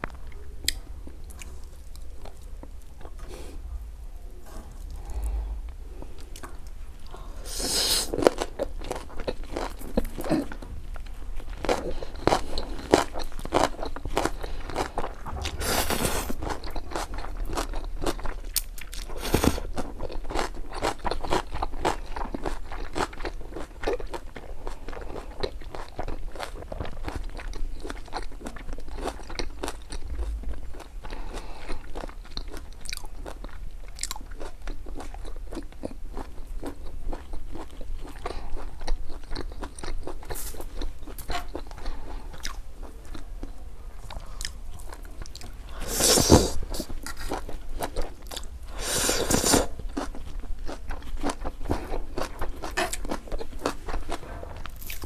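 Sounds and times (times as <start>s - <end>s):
person crunching and chewing food: 4.7s - 55.0s.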